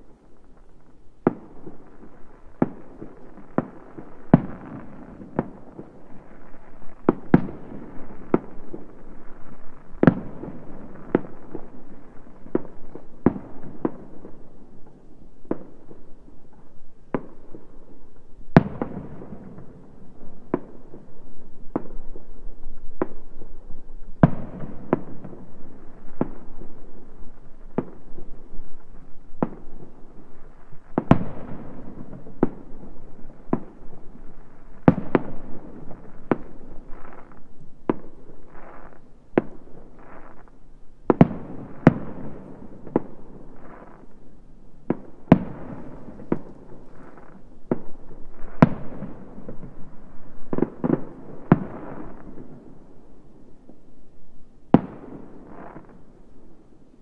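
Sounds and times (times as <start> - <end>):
distant fireworks bangs: 0.1 - 17.9, 18.5 - 52.9.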